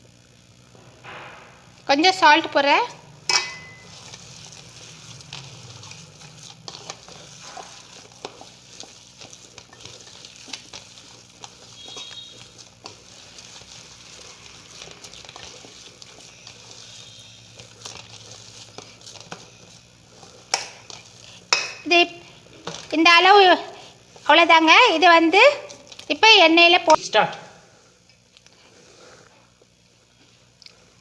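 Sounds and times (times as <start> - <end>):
dough being mixed in a bowl: 1.8 - 31.0.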